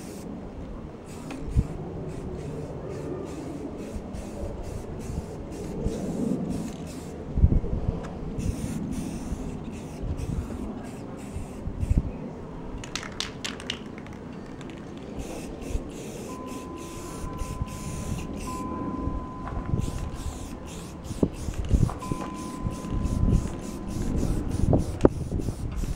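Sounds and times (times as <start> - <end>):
spray can hissing: 0.0 - 0.2, 1.1 - 7.2, 8.4 - 12.0, 12.8 - 18.6, 19.7 - 25.9.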